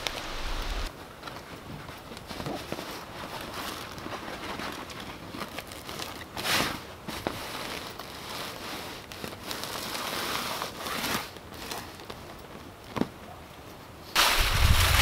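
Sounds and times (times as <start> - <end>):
canvas fabric rustling: 0.0 - 12.6.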